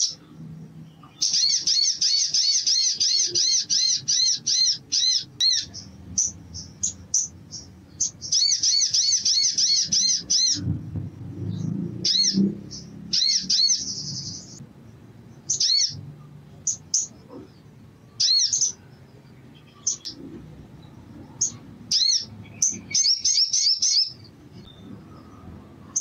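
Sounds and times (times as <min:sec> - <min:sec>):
sunbird singing fast chirps: 0:00.0 - 0:10.6, 0:11.4 - 0:14.6, 0:15.3 - 0:26.0.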